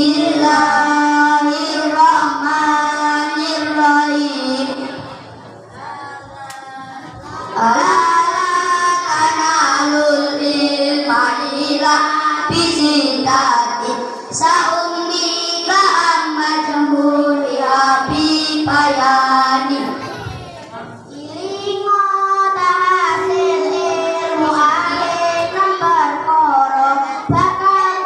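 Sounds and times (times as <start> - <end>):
children singing over a pa: 0.0 - 28.0.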